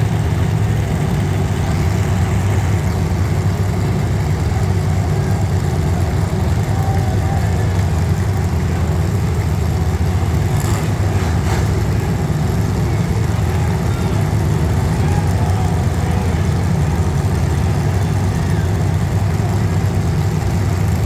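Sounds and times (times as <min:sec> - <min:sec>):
car engines running: 0:00.0 - 0:21.0.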